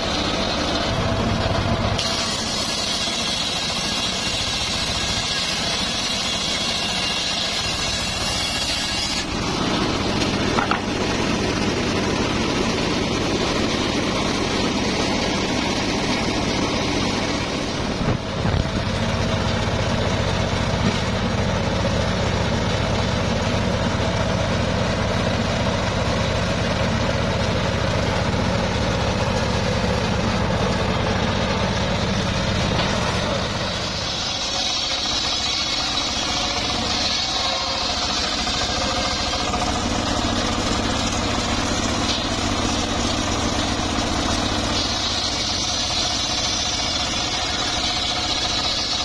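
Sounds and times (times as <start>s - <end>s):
saw bench engine running: 0.0s - 49.0s.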